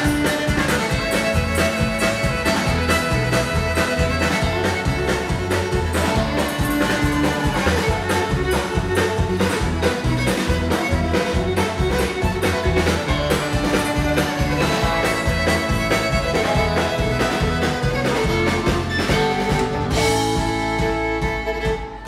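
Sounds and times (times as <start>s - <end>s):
bass guitar: 0.0s - 22.0s
drums keeping a steady beat: 0.0s - 22.0s
electric and acoustic guitars: 0.0s - 22.0s
fiddle lead: 0.0s - 22.0s.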